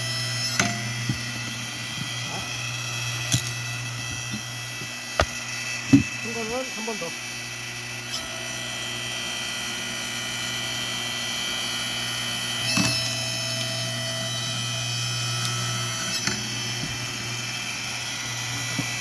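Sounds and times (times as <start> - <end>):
log splitter power unit humming: 0.0 - 19.0.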